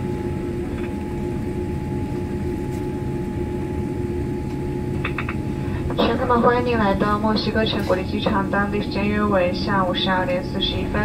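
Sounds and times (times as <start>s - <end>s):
cabin hum: 0.0s - 11.0s
jet engine low rumble: 0.0s - 11.0s.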